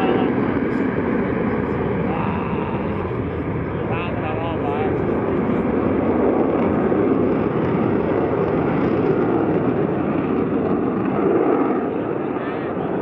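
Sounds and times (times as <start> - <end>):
fighter jet flying past: 0.0 - 13.0.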